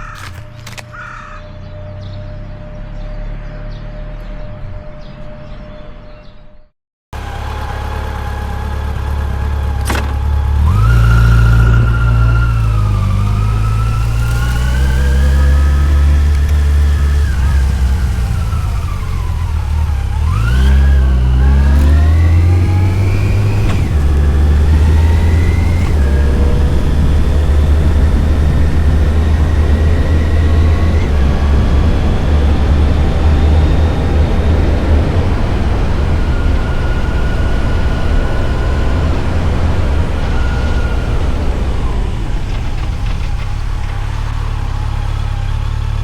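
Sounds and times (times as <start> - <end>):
motorcycle engine accelerating: 7.2 - 46.0.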